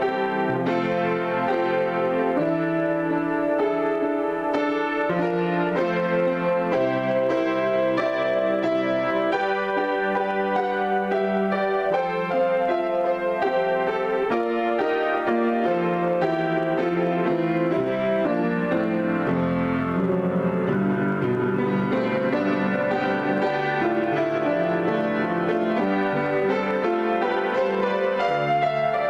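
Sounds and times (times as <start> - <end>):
grand piano improvisation: 0.0 - 29.0.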